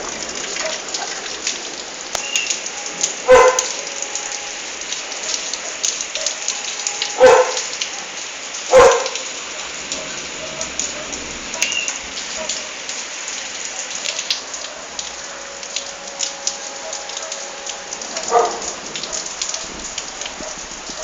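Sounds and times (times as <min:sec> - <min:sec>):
heavy rain pattering and splashing: 0:00.0 - 0:21.0.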